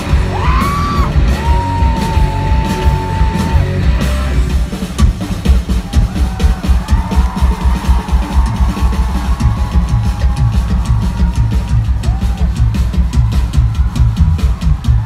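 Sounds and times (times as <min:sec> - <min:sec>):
drum kit pounding: 0:00.0 - 0:15.0
rock band playing live: 0:00.0 - 0:15.0.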